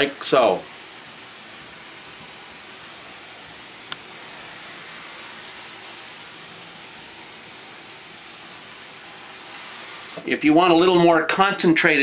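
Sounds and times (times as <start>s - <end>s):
steam cleaner hissing: 0.0s - 12.0s.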